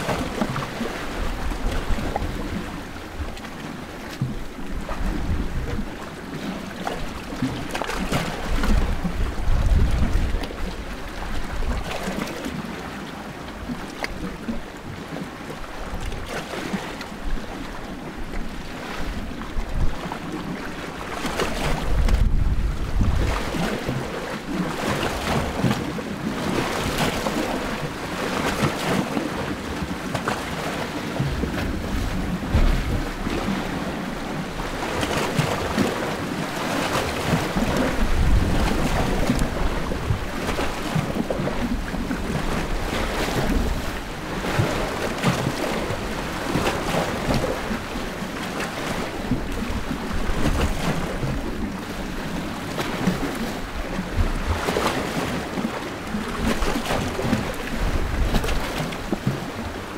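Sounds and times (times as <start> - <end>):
waves lapping on rocky shore: 0.0 - 59.9.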